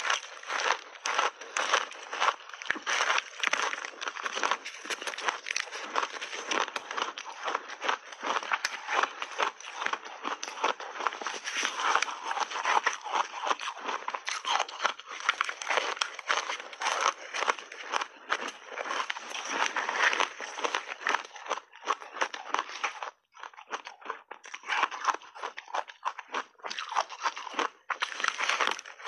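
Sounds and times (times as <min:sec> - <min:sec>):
chewing and crunching ice: 0:00.0 - 0:29.0.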